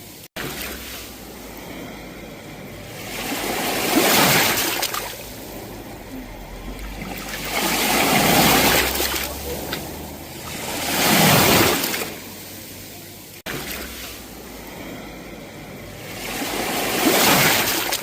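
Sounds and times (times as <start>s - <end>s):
low steady rumble: 0.0s - 18.0s
sea waves breaking: 0.0s - 18.0s.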